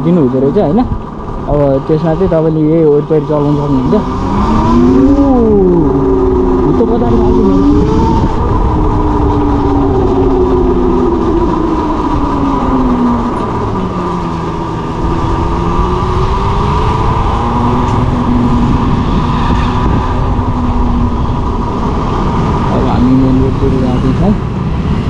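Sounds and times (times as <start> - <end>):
wind rumble on microphone: 0.0 - 25.0
electric motor whining: 0.6 - 24.3.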